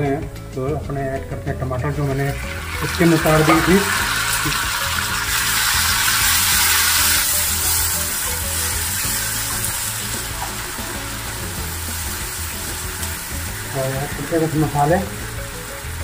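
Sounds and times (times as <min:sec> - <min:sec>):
onions and tomatoes sizzling in oil: 0:01.9 - 0:16.0.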